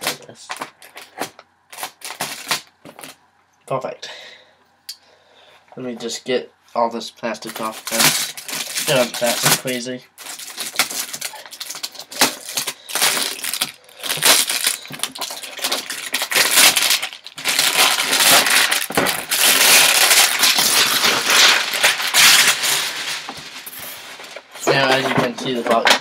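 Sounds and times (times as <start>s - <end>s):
plastic wrapping crackling: 0.0s - 3.2s, 7.3s - 26.0s.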